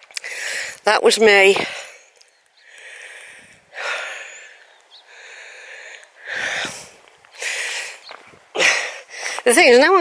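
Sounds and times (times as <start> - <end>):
person breathing heavily: 0.2 - 0.8, 1.6 - 9.5.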